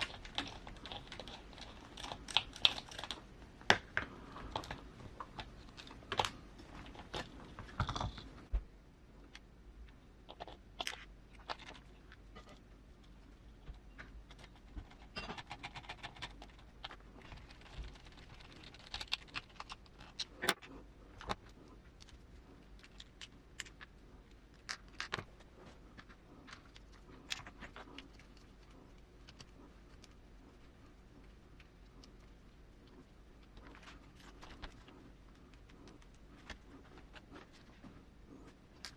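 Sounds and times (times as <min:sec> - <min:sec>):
small parts clicking and tapping: 0:00.0 - 0:08.3, 0:09.3 - 0:37.8.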